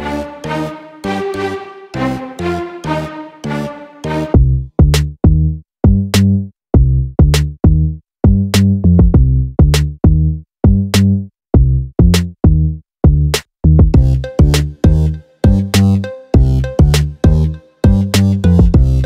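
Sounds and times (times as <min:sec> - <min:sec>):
background music with bass notes: 0:00.0 - 0:19.0.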